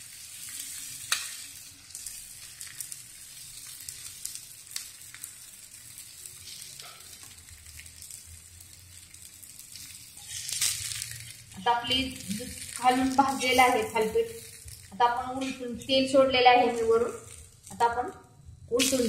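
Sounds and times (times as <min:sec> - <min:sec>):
bread sizzling in oil: 0:00.0 - 0:17.7.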